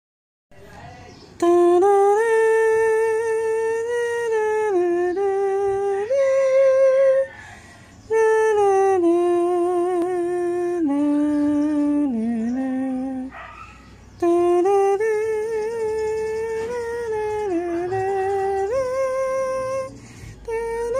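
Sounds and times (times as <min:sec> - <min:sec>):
person humming slow melody: 0:01.4 - 0:13.3, 0:14.2 - 0:20.9.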